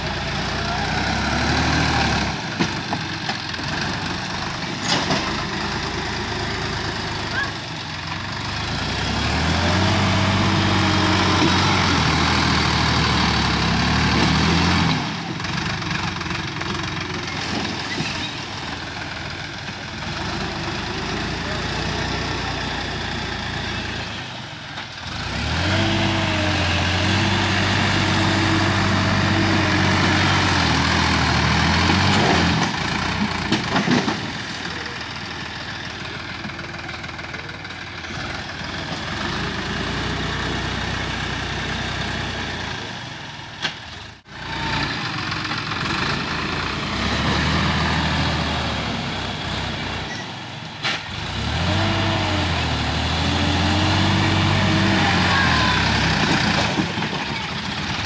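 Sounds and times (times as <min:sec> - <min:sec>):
tractor diesel engine revving: 0:00.0 - 0:58.0.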